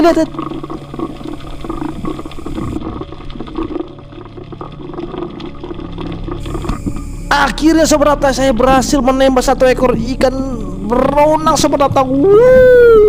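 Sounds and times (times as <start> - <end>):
small scattered crackles: 0.0 - 13.0
steady low hum: 0.0 - 13.0
underwater swishing and bubbling: 0.0 - 13.0.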